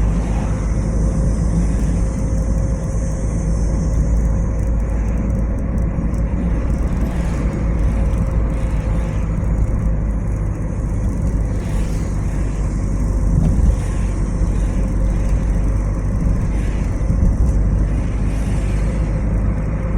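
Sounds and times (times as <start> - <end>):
car engine and road noise: 0.0 - 19.9
faint constant hum: 0.0 - 19.9.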